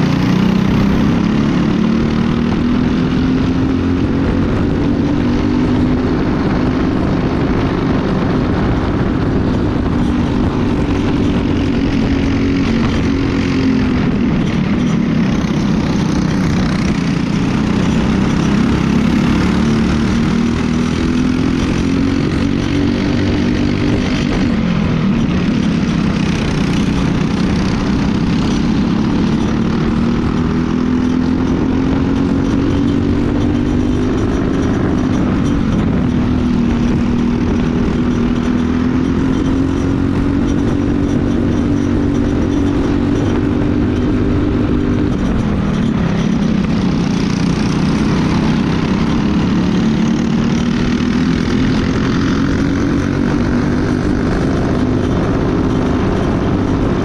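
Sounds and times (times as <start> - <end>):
kart engine racing at full throttle: 0.0 - 57.0.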